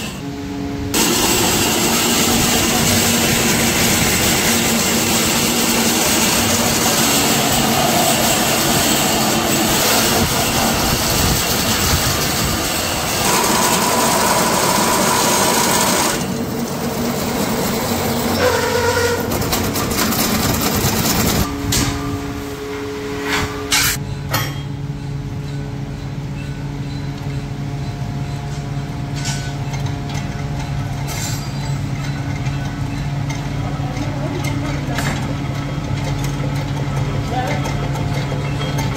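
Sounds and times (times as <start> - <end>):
metalworking machines running: 0.0 - 38.9.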